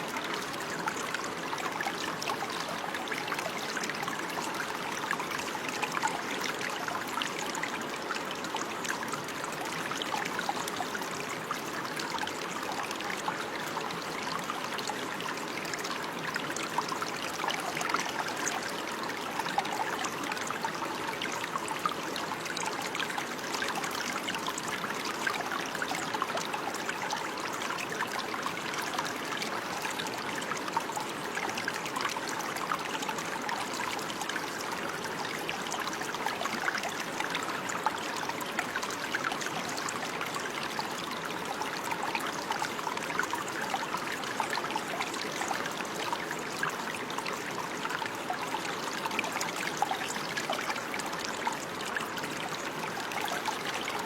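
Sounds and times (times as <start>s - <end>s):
stream babbling and trickling: 0.0s - 54.0s.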